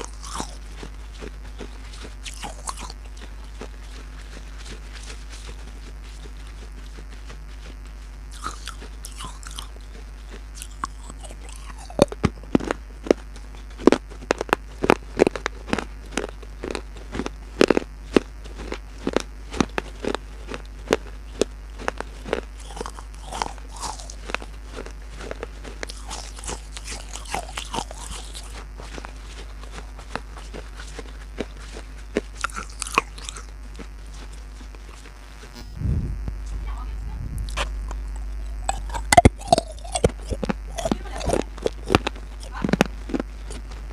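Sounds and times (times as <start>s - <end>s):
chewing and crunching: 0.0s - 35.6s, 36.3s - 43.9s.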